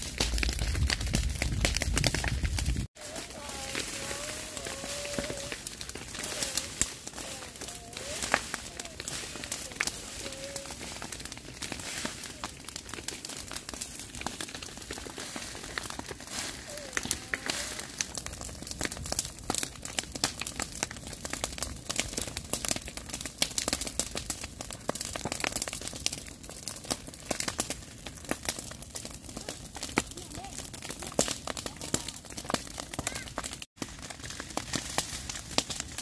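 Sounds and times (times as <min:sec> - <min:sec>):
dry grass burning and crackling: 0:00.0 - 0:36.0.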